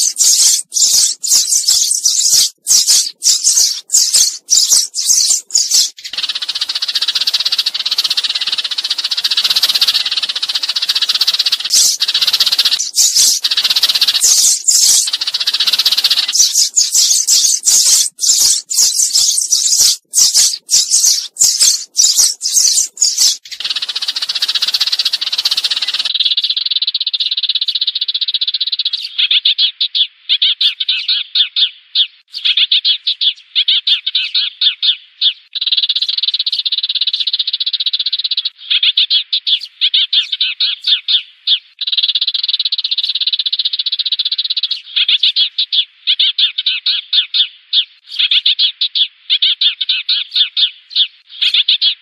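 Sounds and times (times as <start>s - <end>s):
sparrows chattering: 0.0s - 52.0s.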